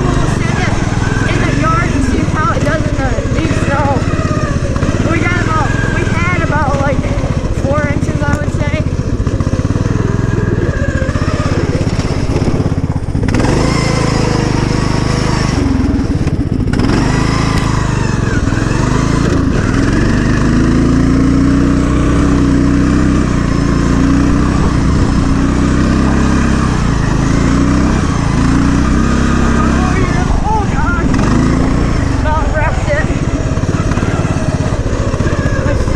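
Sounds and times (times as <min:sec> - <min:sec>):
riding lawn mower engine: 0:00.0 - 0:35.9.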